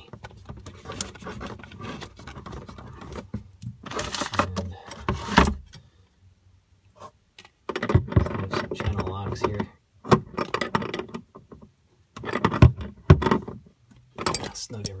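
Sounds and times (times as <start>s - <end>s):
rustling and scraping handling noise: 0.0s - 5.8s, 6.8s - 15.0s.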